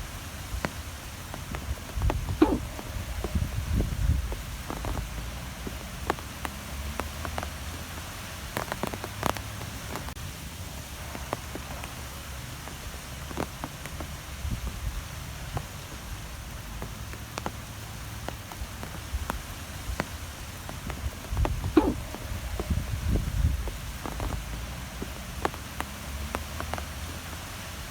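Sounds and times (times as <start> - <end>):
light ticks and patters: 0.0 - 27.9
wind gusts rumbling: 0.0 - 27.9.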